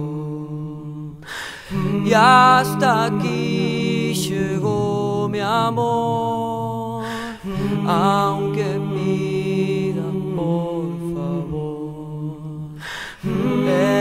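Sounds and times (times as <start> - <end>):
a cappella vocal harmonies: 0.0 - 14.0
low vocal drone: 0.0 - 14.0.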